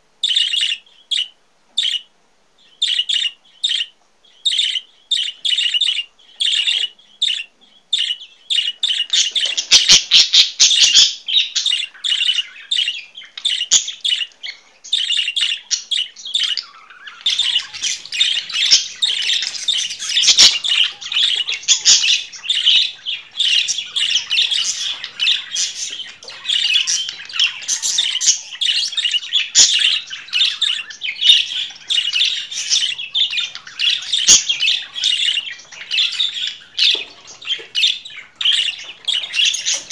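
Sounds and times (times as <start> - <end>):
budgerigars chattering: 0.2 - 2.1, 2.7 - 39.9.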